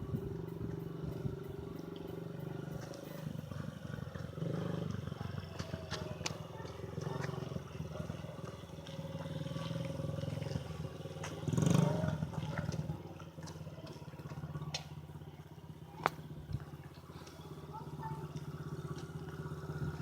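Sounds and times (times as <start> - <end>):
small dirt bike engine running: 0.0 - 20.0.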